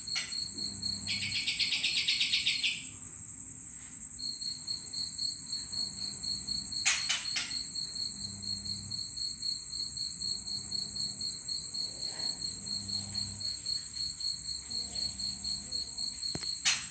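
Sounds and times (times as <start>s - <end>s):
cricket trilling: 0.0s - 16.9s.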